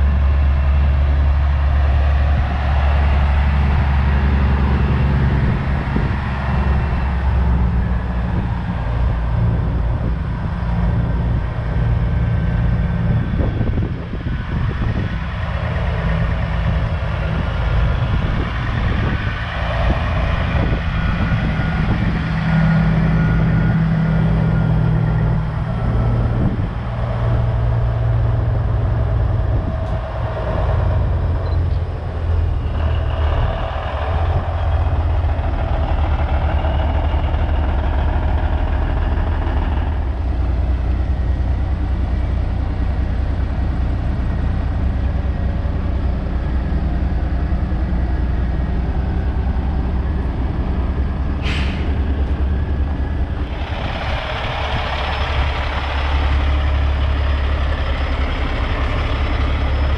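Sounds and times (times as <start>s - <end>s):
trucks diesel engines passing: 0.0s - 59.9s.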